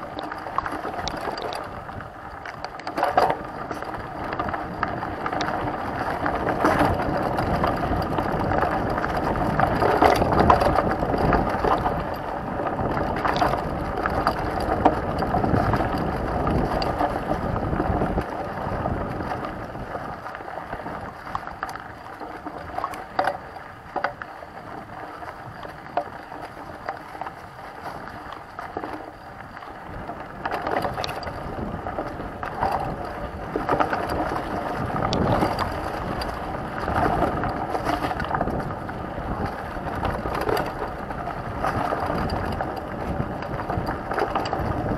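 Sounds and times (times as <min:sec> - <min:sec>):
bike knocks and rattles: 0:00.0 - 0:44.9
bike tyres rushing on dirt: 0:00.0 - 0:44.9.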